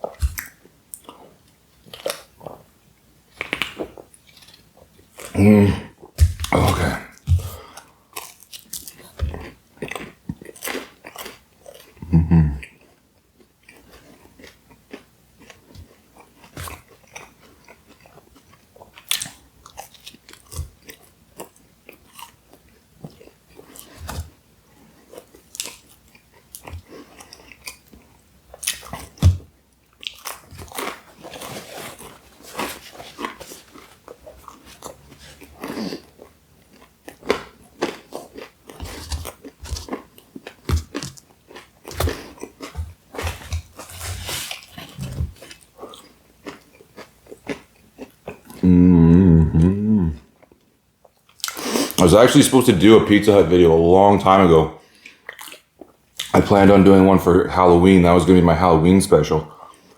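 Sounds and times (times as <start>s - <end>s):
person chewing and biting: 0.0s - 2.6s, 3.3s - 12.9s, 13.6s - 24.3s, 25.0s - 52.0s, 54.9s - 56.4s.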